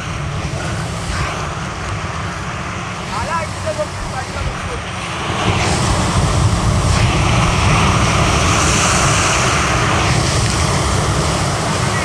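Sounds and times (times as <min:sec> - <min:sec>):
sea waves breaking on boulders: 0:00.0 - 0:12.0
wind rumble on microphone: 0:00.0 - 0:12.0.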